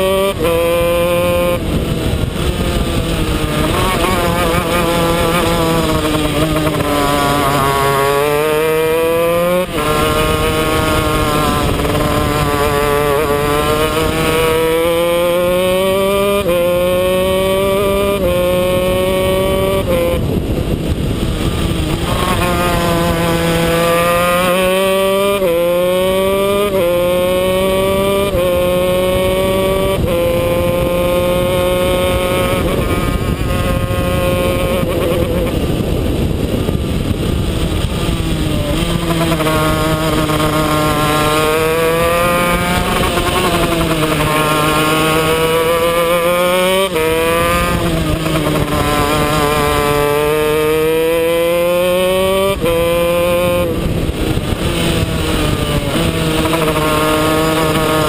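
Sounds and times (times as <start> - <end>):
two-stroke kart engine revving: 0.0 - 58.0.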